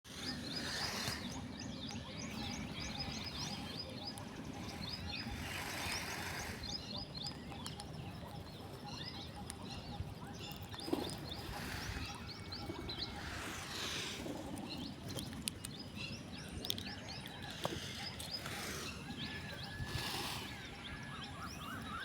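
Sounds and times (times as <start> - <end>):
small birds chirping: 0.1 - 22.0.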